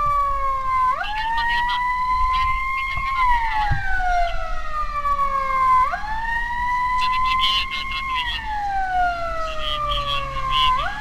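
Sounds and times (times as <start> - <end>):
emergency siren wailing: 0.0 - 11.0.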